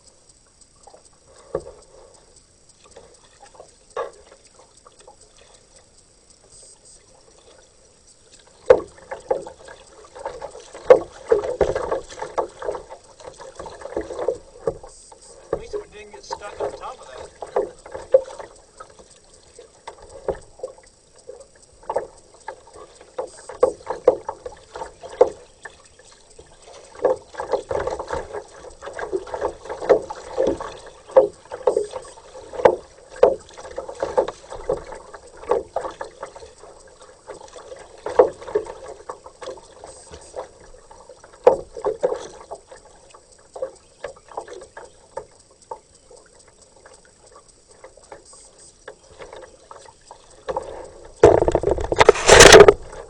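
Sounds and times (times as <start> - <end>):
kayak paddle splashing: 0.0 - 53.0.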